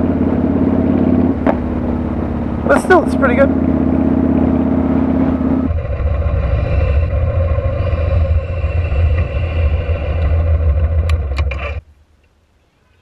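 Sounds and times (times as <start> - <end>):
motorcycle engine rumble: 0.0 - 12.3.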